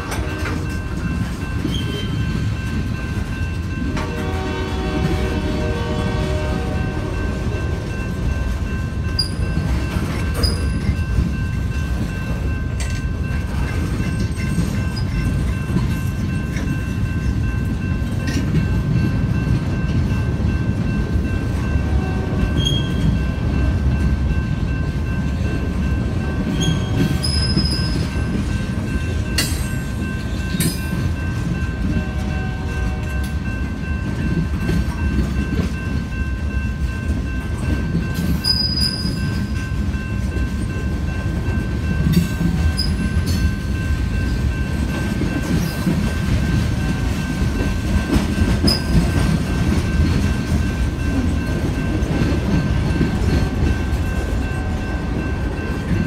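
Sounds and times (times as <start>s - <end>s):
freight train rumbling past: 0.0s - 56.0s
train cars clanking: 0.0s - 56.0s.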